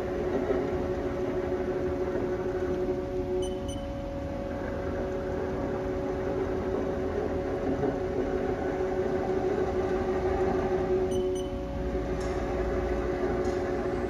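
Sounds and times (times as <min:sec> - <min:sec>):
lathe slide mechanical hum: 0:00.0 - 0:14.0.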